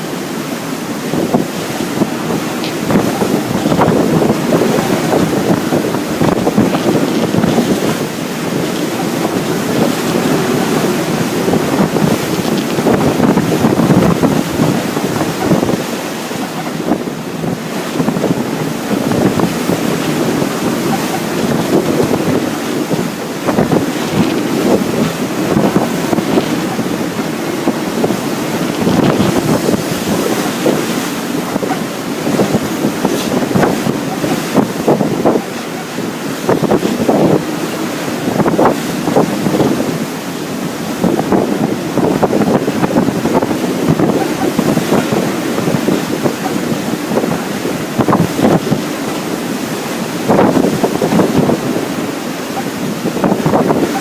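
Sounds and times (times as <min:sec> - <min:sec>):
storm wind buffeting microphone: 0:00.0 - 0:54.0
waves rushing around a boat: 0:00.0 - 0:54.0.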